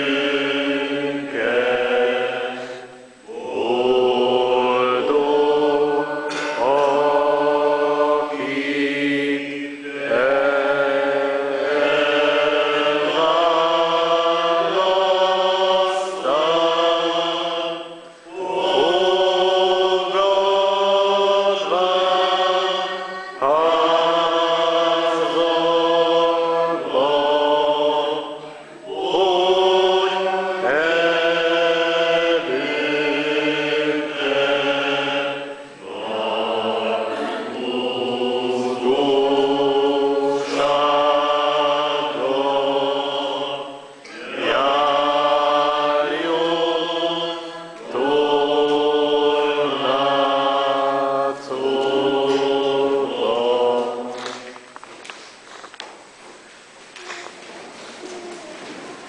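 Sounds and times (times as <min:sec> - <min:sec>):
congregation singing a hymn: 0:00.0 - 0:55.8.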